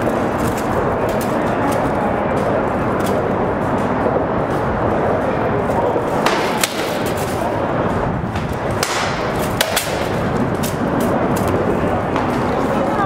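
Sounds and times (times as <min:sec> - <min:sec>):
steady rushing background noise: 0:00.0 - 0:13.0.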